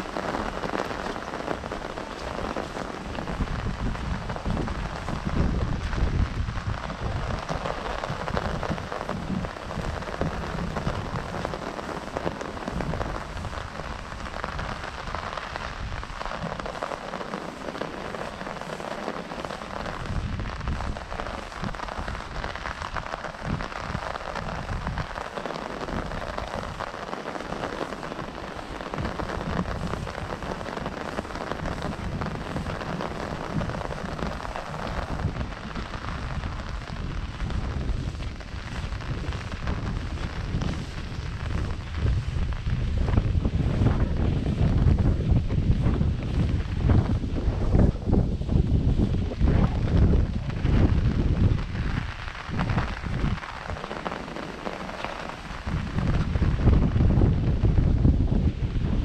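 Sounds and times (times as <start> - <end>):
rain on an umbrella: 0.0 - 59.0
wind on microphone: 0.0 - 59.0.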